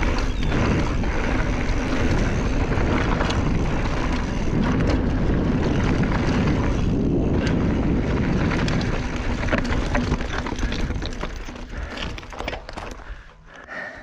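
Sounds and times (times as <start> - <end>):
tyres crunching over gravel: 0.0 - 13.3
wind rumbling on microphone: 0.0 - 13.3
bike clicking and rattling: 0.0 - 13.7.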